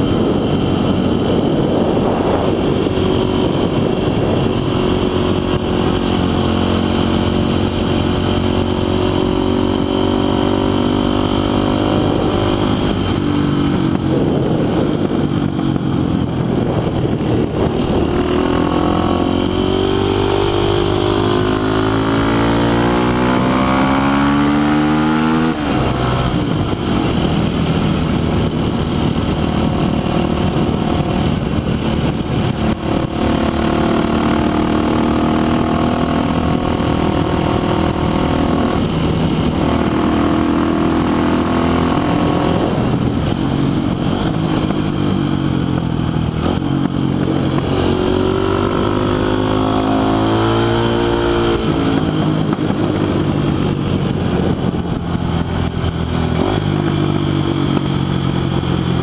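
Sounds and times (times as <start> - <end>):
motorcycle engine accelerating: 0.0 - 59.0
wind and road rush: 0.0 - 59.0.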